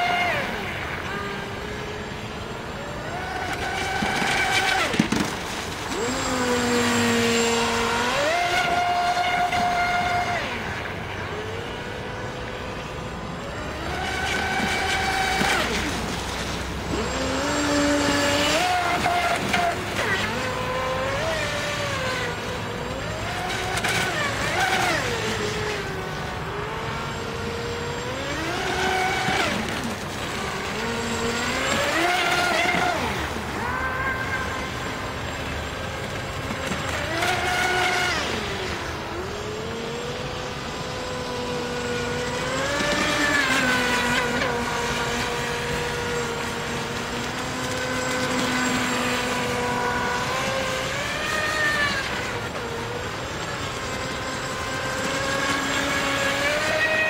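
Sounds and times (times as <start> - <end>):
electric motor whining: 0.0 - 57.0.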